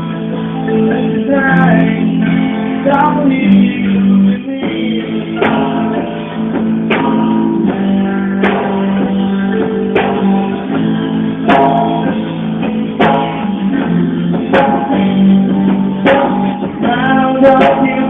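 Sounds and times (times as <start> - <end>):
live band playing instrumental: 0.0 - 18.0
strong guitar chord accents: 0.0 - 18.0.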